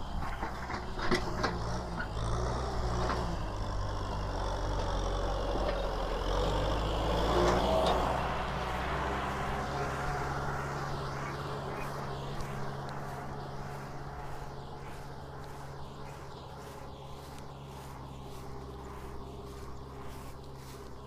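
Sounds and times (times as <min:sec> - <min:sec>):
tractor diesel engine passing: 0:00.0 - 0:21.0.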